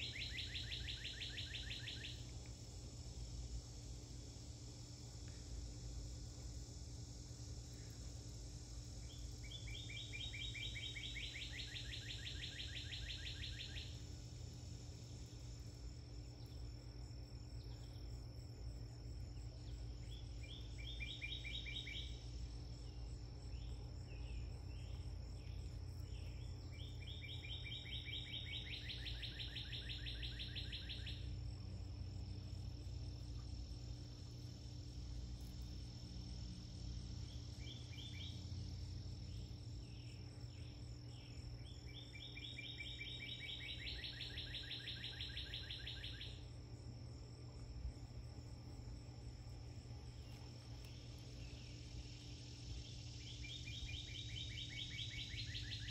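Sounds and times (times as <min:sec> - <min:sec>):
insect fast trill: 0:00.0 - 0:55.9
insects high whine: 0:00.0 - 0:55.9.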